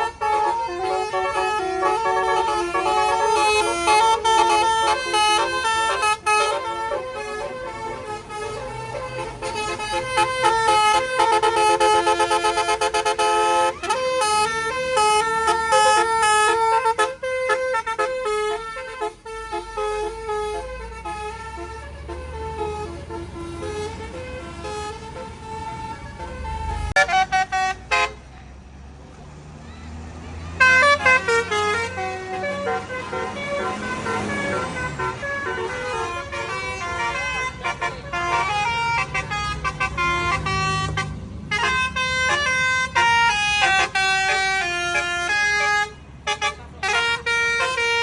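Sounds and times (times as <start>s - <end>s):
multi-tone bus horn melody: 0.0s - 28.8s, 30.0s - 48.0s.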